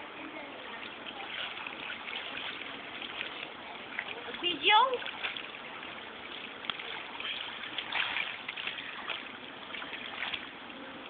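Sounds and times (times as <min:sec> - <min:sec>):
pool water splashing: 0:00.0 - 0:11.0.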